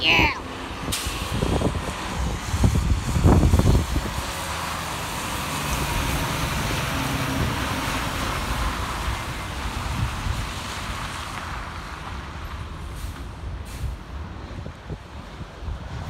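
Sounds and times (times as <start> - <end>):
tyres hissing on wet road: 0.4 - 16.0.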